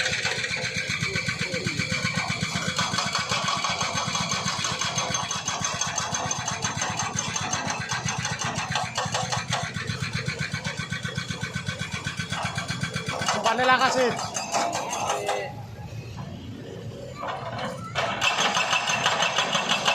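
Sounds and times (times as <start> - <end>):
small engine running: 0.0 - 19.9.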